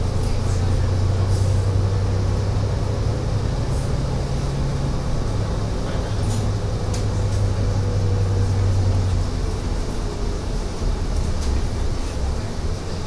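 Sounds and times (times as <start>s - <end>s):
bus diesel engine running: 0.0s - 13.0s
road and tyre rumble: 0.0s - 13.0s.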